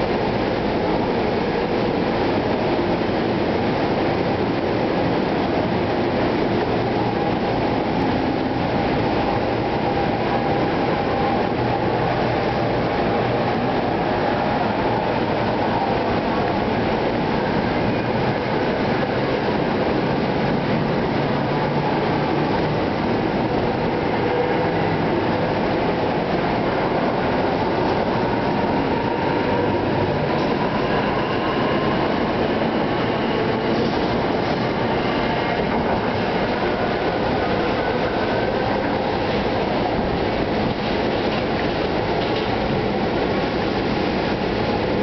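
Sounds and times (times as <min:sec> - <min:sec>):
faint rising train whine: 0:00.0 - 0:45.0
train wheels rumbling on rail: 0:00.0 - 0:45.0.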